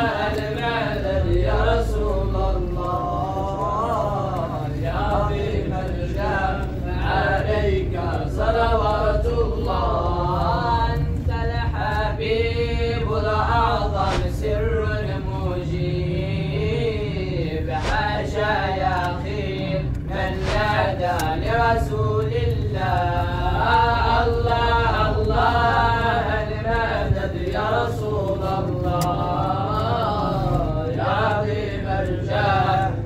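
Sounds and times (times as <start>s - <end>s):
devotional chant singing: 0.0s - 33.0s.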